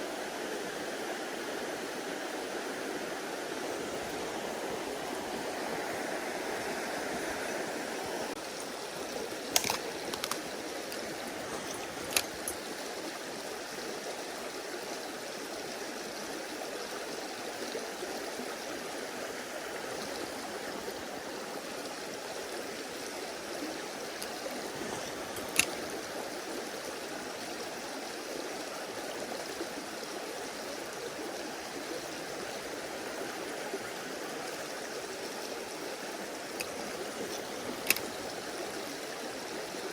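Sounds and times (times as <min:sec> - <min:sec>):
stream rushing and burbling: 0:00.0 - 0:39.9.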